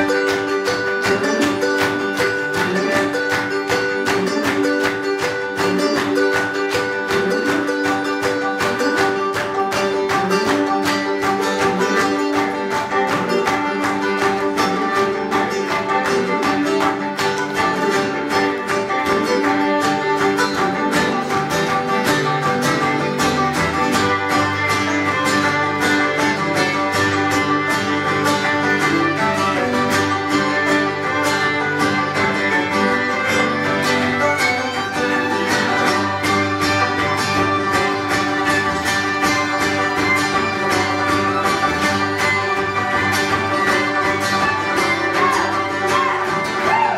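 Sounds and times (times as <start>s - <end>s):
acoustic guitar: 0.0s - 46.9s
banjo: 0.0s - 46.9s
fiddle: 0.0s - 46.9s.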